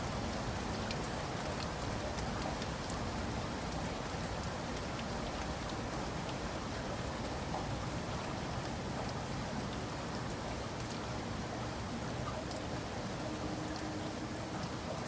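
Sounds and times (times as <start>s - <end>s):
heavy rain: 0.0s - 15.0s
raindrop ticks: 0.0s - 15.0s.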